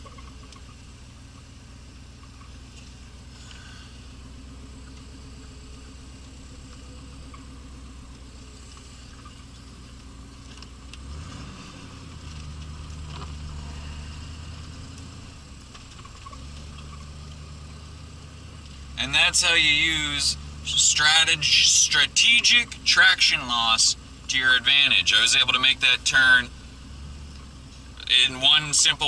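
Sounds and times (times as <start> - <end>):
car engine running and revving: 0.0 - 29.0.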